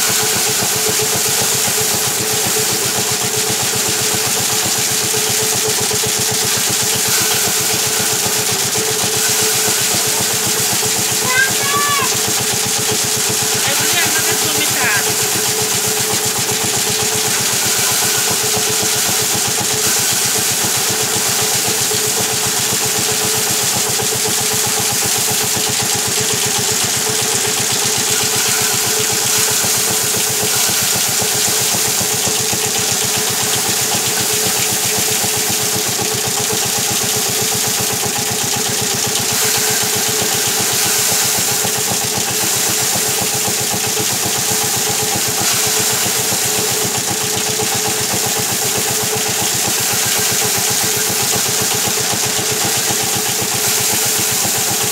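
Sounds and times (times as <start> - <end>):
thresher mechanical whir: 0.0 - 54.9.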